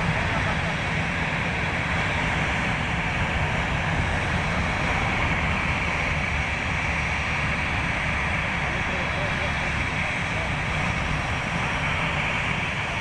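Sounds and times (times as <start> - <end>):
jet aircraft engine rush: 0.0 - 13.0.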